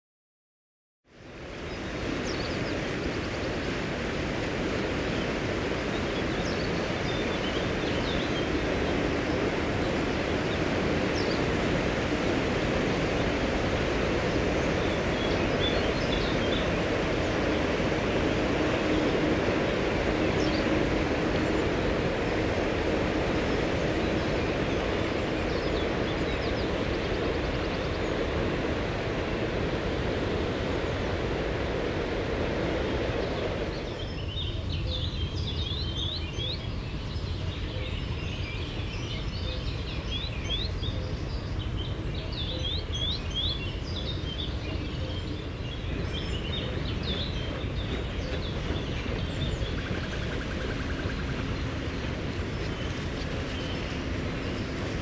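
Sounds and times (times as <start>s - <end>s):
steady roaring noise: 1.2s - 38.7s, 43.8s - 55.0s
small birds chirping: 5.1s - 55.0s.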